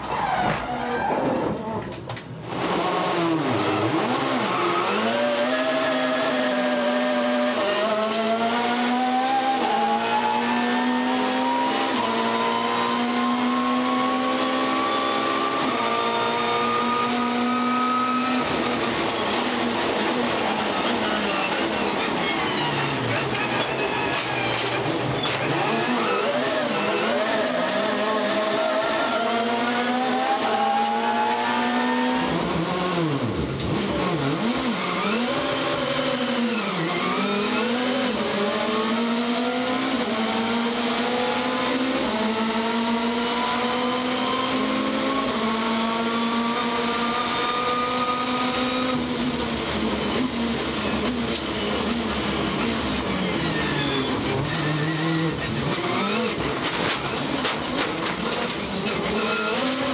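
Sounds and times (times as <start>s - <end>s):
racing car engine revving: 2.4s - 59.9s.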